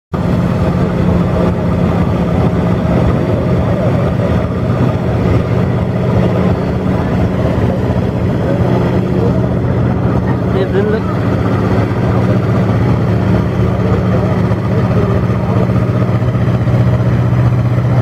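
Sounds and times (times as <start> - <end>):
tractor diesel engine idling: 0.2 - 18.0.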